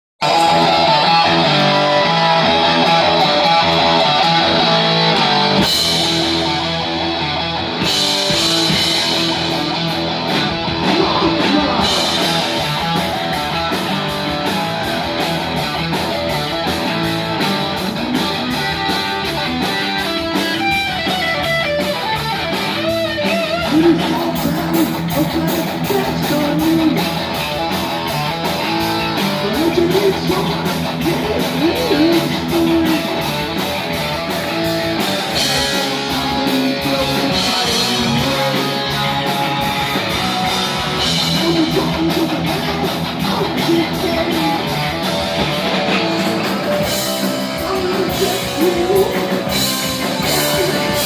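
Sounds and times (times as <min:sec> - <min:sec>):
distorted electric guitar riffing: 0:00.2 - 0:51.0.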